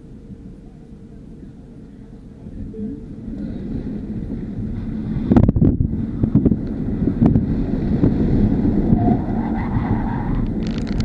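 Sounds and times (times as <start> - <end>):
tyre and wind noise in car: 0.0 - 11.0.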